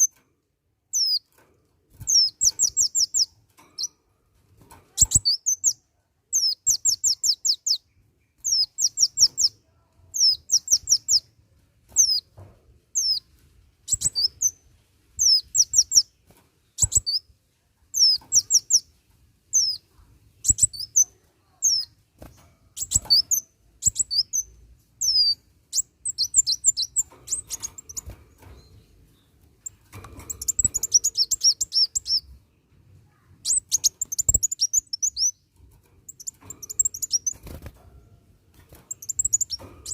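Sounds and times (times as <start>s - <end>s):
sunbird chirping: 2.1s - 4.0s, 5.0s - 11.3s, 12.9s - 17.3s, 17.9s - 32.4s, 33.1s - 35.5s, 36.1s - 37.6s, 38.9s - 39.9s.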